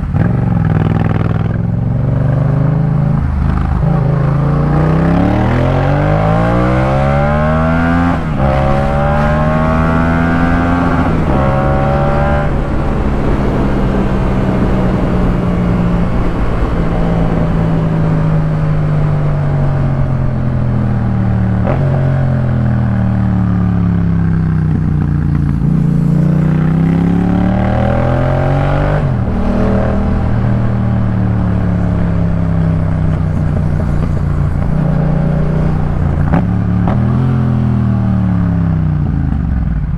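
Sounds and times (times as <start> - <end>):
motorcycle engine with gear changes: 0.0 - 39.9.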